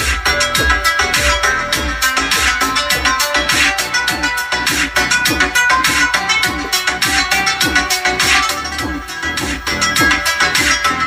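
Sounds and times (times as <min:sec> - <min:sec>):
music with drums and heavy bass: 0:00.0 - 0:11.0.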